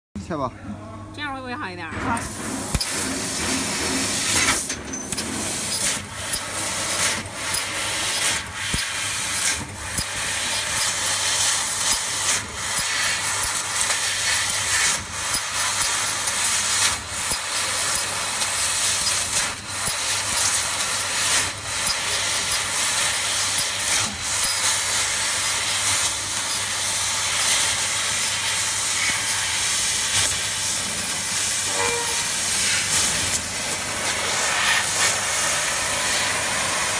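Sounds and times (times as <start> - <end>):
gas jet hissing at cutting nozzle: 2.2 - 36.9.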